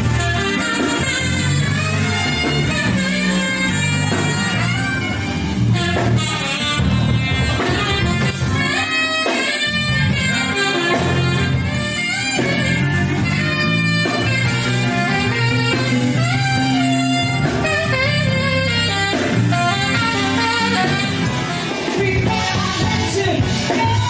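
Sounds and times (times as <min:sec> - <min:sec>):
bass: 0:00.0 - 0:24.0
drums: 0:00.0 - 0:24.0
saxophone playing melody: 0:00.0 - 0:24.0.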